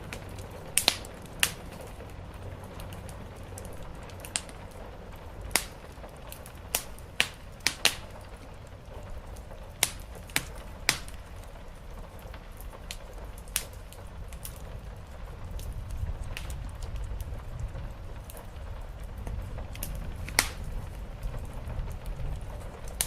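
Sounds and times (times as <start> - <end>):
rain on the roof: 0.0 - 23.0
wood fire crackling: 0.0 - 23.0.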